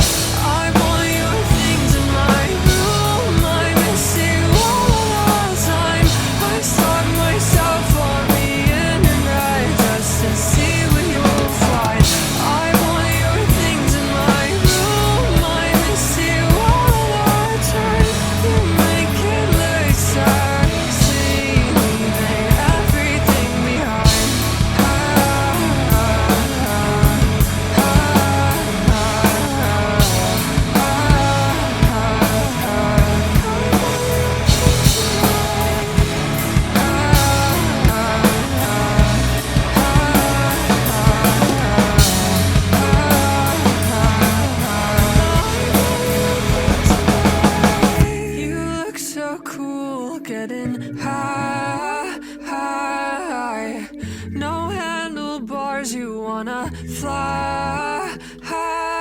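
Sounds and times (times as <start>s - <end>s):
rock drum kit playing: 0.0s - 48.4s
recorded rock song: 0.0s - 59.0s.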